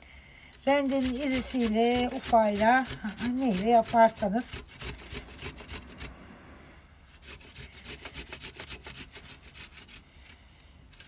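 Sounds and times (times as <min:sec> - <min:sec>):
ginger grated on hand grater: 0:00.6 - 0:06.2, 0:07.1 - 0:11.0.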